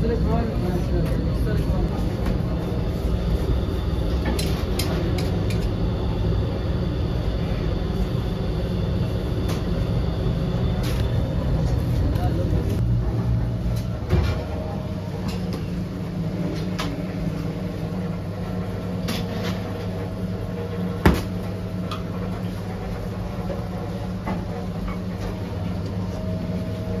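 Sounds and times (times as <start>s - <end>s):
bakery machinery humming: 0.0s - 27.0s.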